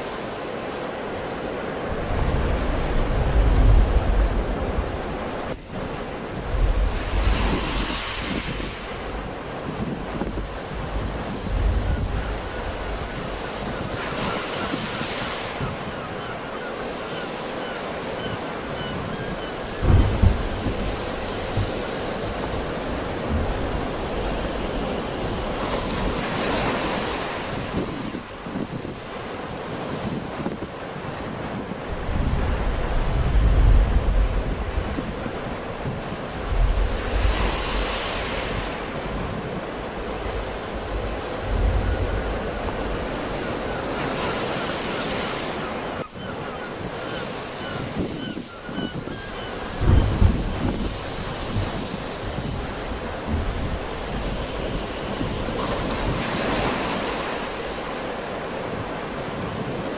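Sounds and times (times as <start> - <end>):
waves washing on shore: 0.0 - 59.9
wind on microphone: 0.0 - 59.9.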